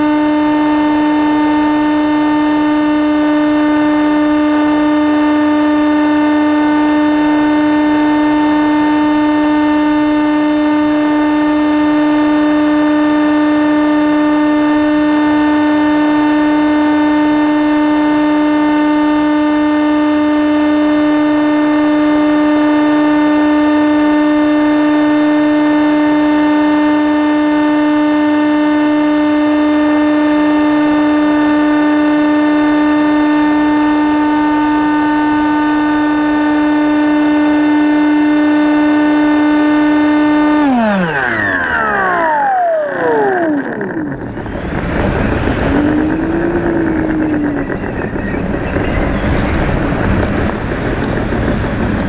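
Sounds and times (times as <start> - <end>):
model aircraft motor buzzing: 0.0 - 52.0.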